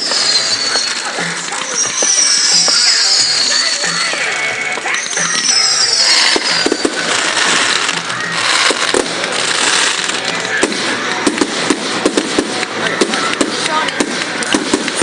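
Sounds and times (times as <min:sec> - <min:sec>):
firework whistle: 0:00.0 - 0:15.0
fireworks crackling: 0:00.0 - 0:15.0
fireworks cracks and pops: 0:00.0 - 0:15.0.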